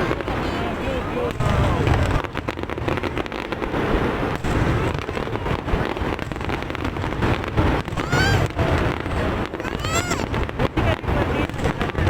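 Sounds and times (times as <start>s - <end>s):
crowd noise: 0.0s - 12.0s
fireworks popping and crackling: 0.0s - 12.0s
rumble of fireworks bursts: 0.0s - 12.0s.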